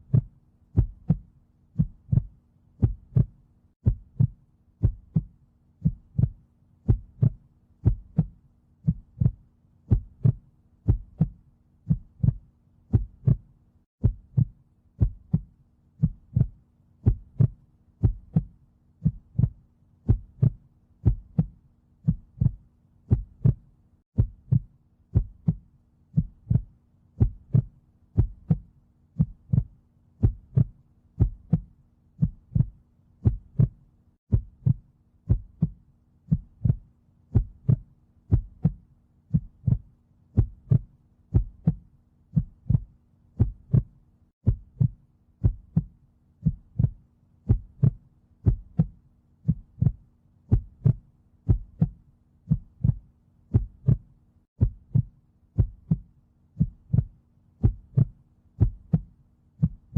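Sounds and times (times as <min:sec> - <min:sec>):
heartbeat double thumps: 0:00.0 - 0:59.9.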